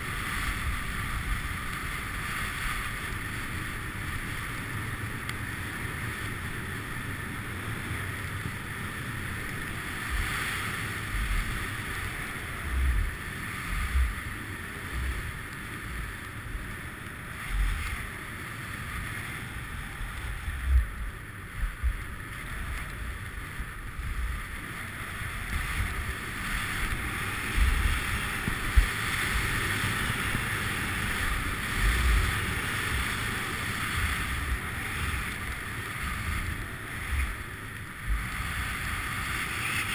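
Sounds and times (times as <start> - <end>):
skis sliding on snow: 0.0 - 39.9
wind buffeting microphone: 0.0 - 39.9.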